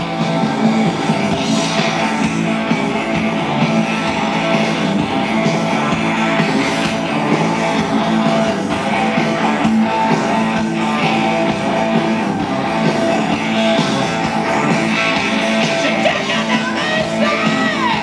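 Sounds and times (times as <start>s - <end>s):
electric guitar riff: 0.0s - 18.0s
hard rock band playing: 0.0s - 18.0s.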